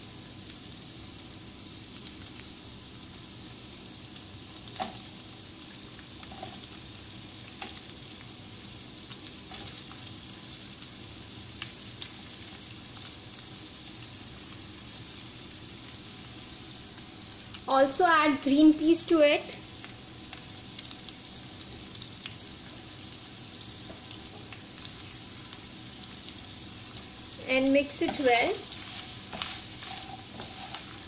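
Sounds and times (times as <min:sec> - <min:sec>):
oil sizzling in a wok: 0:00.0 - 0:31.0.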